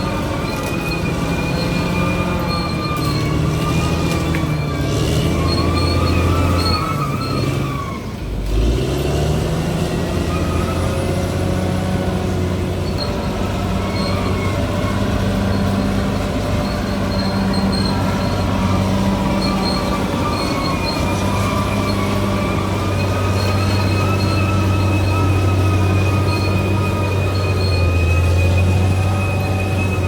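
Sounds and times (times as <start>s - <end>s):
bulldozer diesel engine running: 0.0s - 30.0s
high squeals of crawler tracks: 0.0s - 30.0s.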